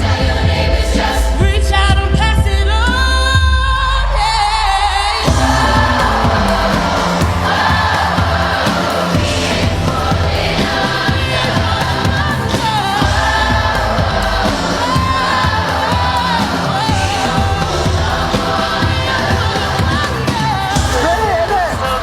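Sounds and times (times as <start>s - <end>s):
bass backing: 0.0s - 22.0s
choir singing pop song: 0.0s - 22.0s.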